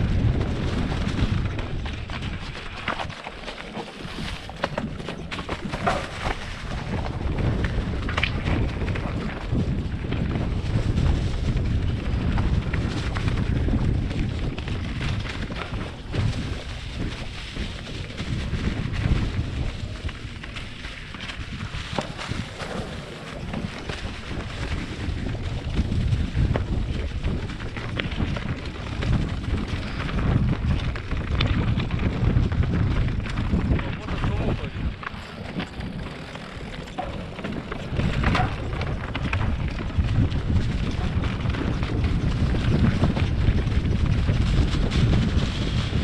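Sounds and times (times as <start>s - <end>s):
bike clicks and clatters: 0.0s - 46.0s
tyres rolling over loose stones: 0.0s - 46.0s
wind buffeting microphone: 0.0s - 46.0s.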